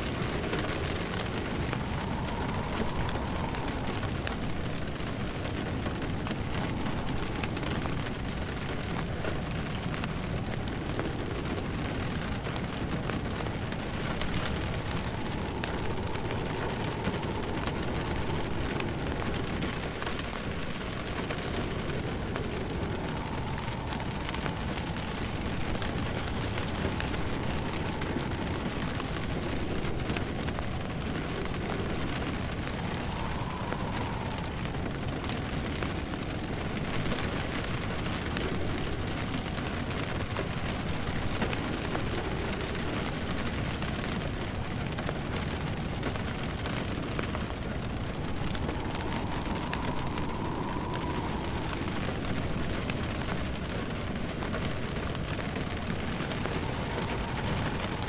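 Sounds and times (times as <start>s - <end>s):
faint wind: 0.0s - 58.0s
steady rain on a surface: 0.0s - 58.0s
wood fire crackling: 0.0s - 58.0s.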